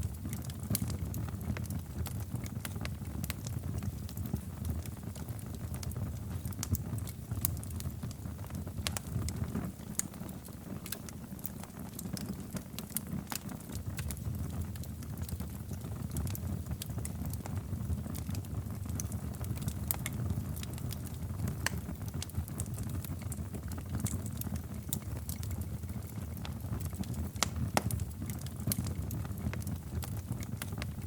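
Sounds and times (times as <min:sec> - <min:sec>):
low rumble of flames: 0:00.0 - 0:31.0
wood fire crackling: 0:00.0 - 0:31.0.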